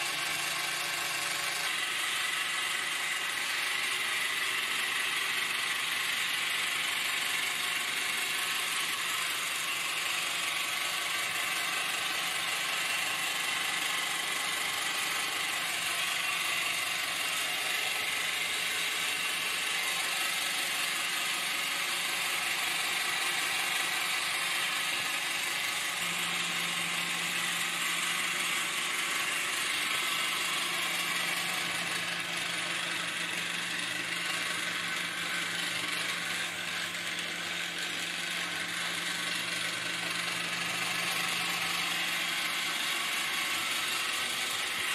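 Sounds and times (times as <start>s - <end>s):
electric drill motor running: 0.0s - 44.9s.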